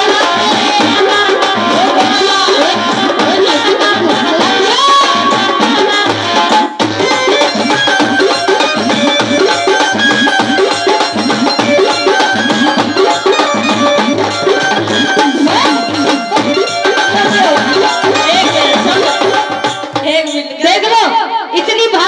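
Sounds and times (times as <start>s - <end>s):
folk music with drum beat: 0.0s - 22.0s.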